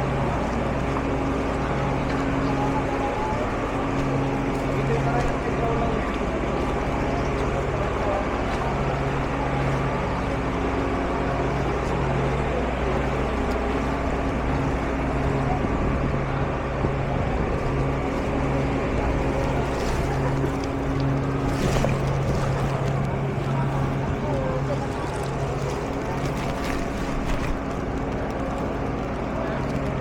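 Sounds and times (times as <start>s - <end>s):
road or water noise: 0.0s - 30.0s
vehicle engine humming: 0.0s - 30.0s.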